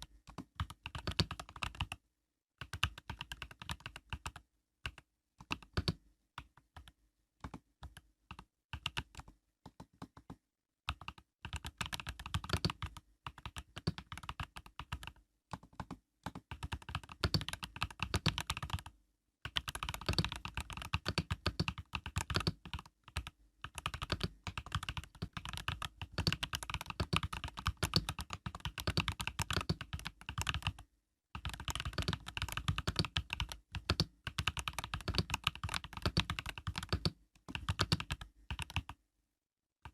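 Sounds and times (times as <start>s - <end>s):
mechanical keyboard typing: 0.1s - 2.0s, 2.6s - 6.0s, 6.8s - 18.9s, 19.5s - 30.8s, 31.4s - 39.0s.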